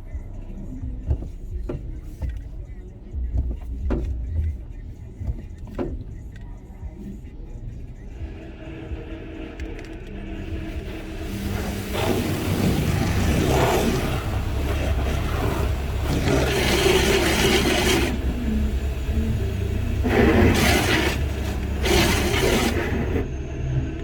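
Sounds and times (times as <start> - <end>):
car wash spraying and scrubbing: 0.0 - 24.0
low machinery rumble: 0.0 - 24.0.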